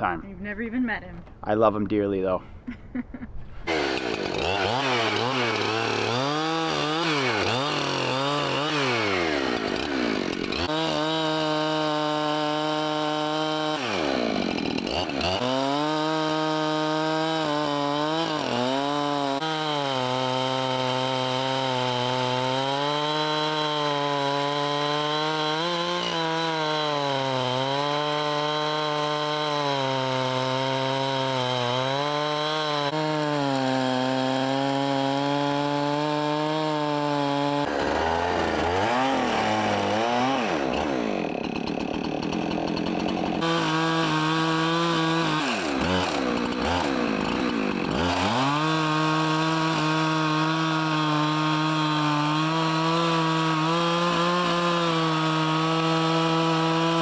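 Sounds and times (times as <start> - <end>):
chainsaw cutting log: 3.6 - 57.0.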